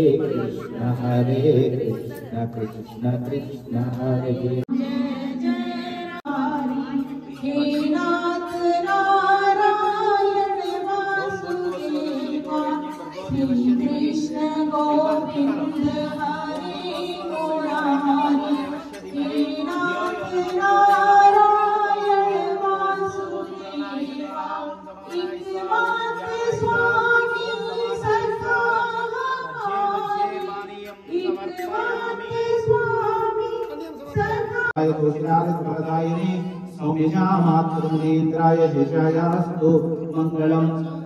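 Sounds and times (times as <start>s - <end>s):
group singing devotional song: 0.0s - 41.0s.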